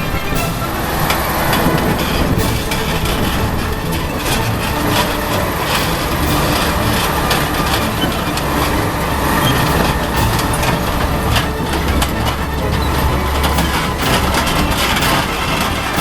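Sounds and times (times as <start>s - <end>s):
diesel engine running: 0.0s - 16.0s
metallic knocks and clanks: 0.0s - 16.0s.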